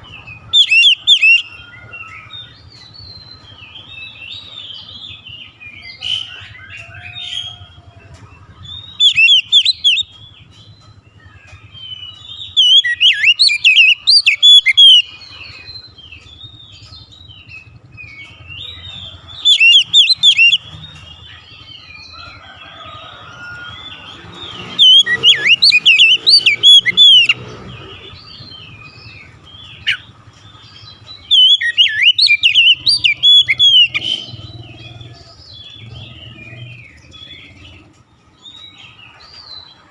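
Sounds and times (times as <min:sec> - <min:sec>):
bird singing whistles and trills: 0:00.0 - 0:37.8
quiet bird twittering: 0:00.0 - 0:39.8.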